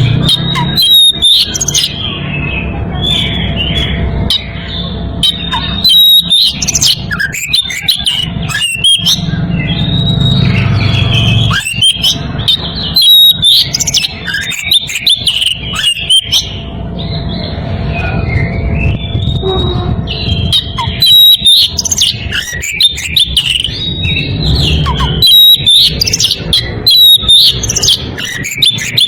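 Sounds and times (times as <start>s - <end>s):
bird singing whistled song: 0.0s - 29.0s.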